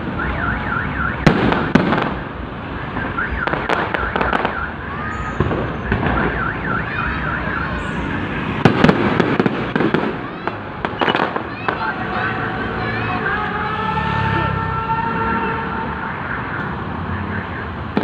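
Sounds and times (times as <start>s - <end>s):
fireworks bangs: 0.0s - 16.6s.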